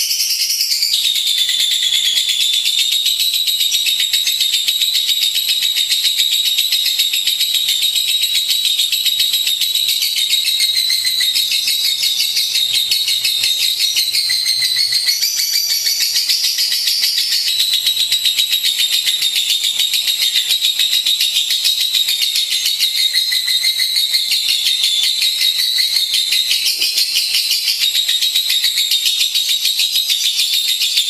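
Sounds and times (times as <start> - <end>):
lovebird chattering trill: 0.1 - 31.0.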